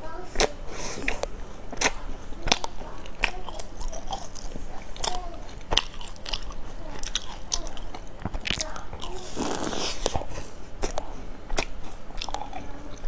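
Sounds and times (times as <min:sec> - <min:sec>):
chewing crunchy brittle: 0:00.2 - 0:13.0.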